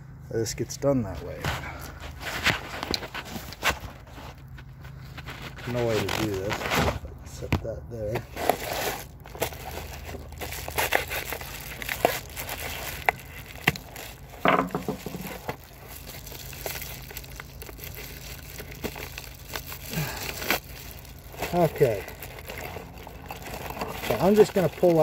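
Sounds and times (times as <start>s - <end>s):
bubble wrap crinkling: 1.2s - 7.0s, 8.2s - 25.0s.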